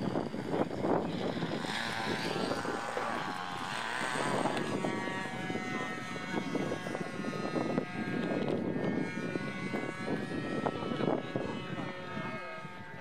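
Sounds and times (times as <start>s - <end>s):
model aircraft motor whining: 0.0s - 13.0s.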